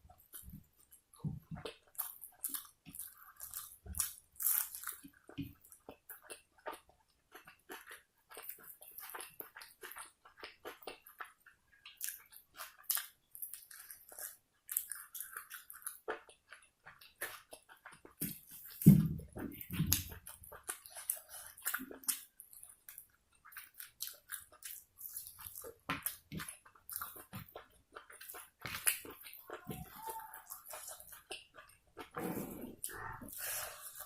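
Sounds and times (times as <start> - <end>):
person chewing with mouth clicks: 0.2 - 34.0.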